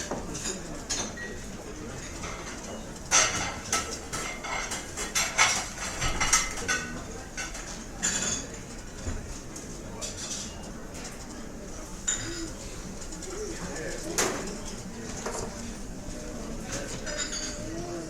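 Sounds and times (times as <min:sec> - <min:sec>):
cutlery and dishes clinking: 0:00.0 - 0:08.9, 0:10.0 - 0:15.7, 0:16.6 - 0:18.0
restaurant room noise: 0:00.0 - 0:18.0.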